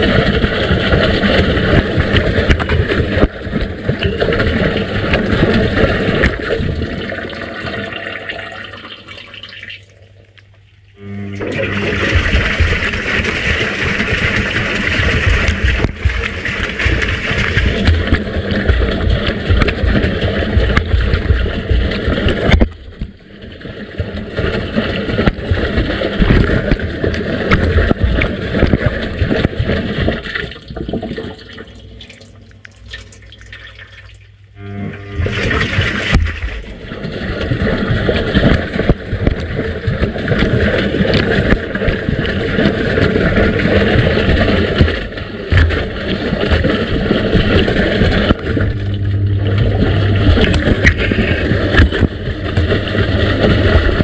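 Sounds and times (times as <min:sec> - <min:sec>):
washing machine water sloshing: 0:00.0 - 0:54.0.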